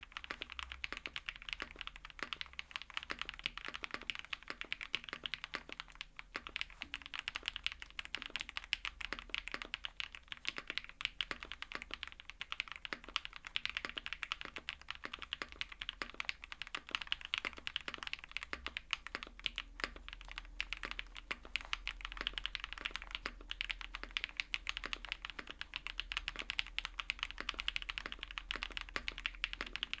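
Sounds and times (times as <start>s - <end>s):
fast typing on mechanical keyboard: 0.0s - 30.0s.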